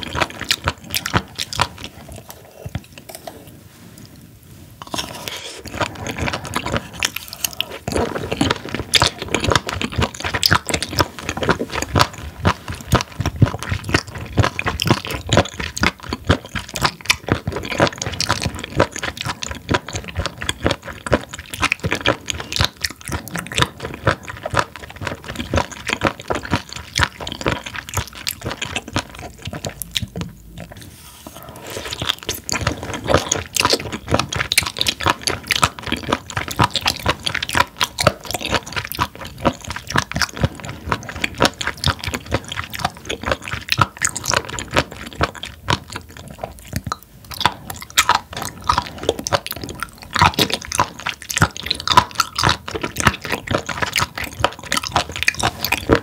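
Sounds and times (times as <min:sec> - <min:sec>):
crisp crunchy chewing: 0:00.0 - 0:03.3, 0:04.8 - 0:56.0.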